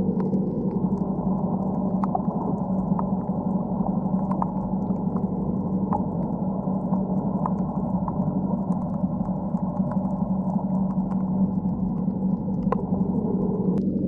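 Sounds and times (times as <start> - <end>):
faint clicks and pops: 0.0 - 14.0
muffled underwater rush and hum: 0.0 - 14.0.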